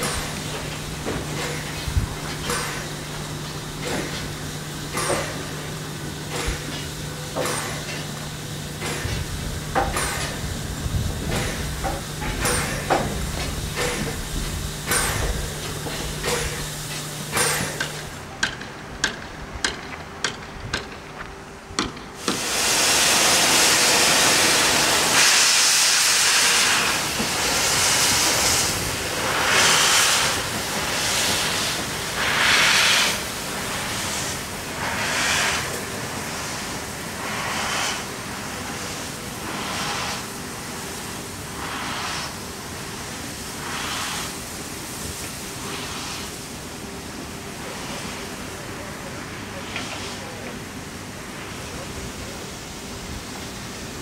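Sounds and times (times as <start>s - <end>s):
steam locomotive hissing steam: 0.0s - 20.4s, 21.4s - 54.0s.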